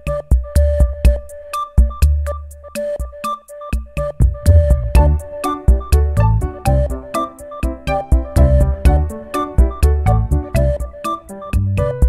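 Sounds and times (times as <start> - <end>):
background music with heavy beat: 0.0 - 12.0.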